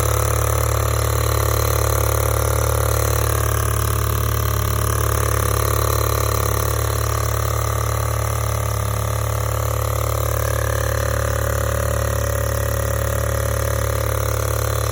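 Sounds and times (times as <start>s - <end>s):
car engine idling with ticking: 0.0s - 14.9s.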